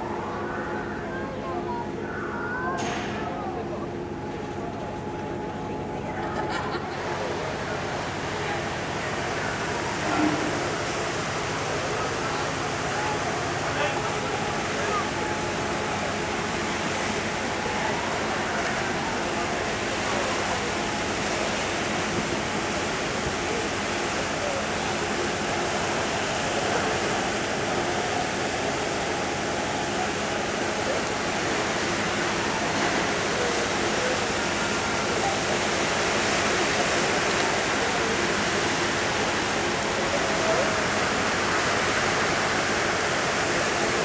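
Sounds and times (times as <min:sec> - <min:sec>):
seawater rushing: 0:00.0 - 0:44.0.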